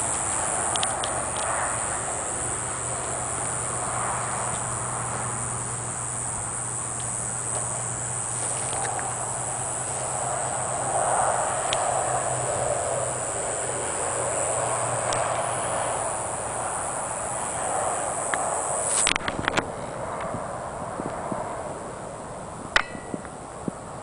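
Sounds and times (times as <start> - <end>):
cicada buzzing: 0.0 - 24.0.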